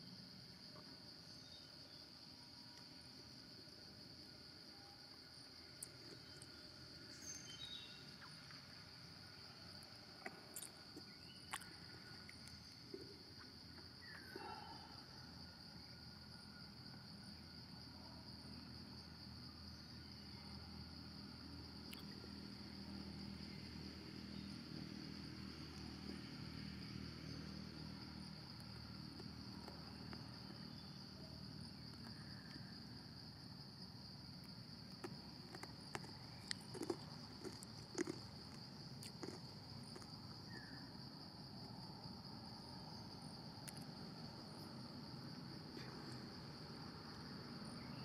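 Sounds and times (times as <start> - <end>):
insects buzzing: 0.0 - 48.0.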